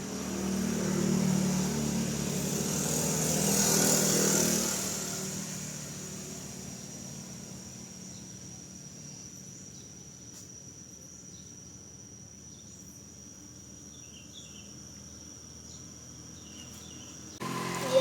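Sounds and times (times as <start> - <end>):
insect trill: 0.1 - 18.0.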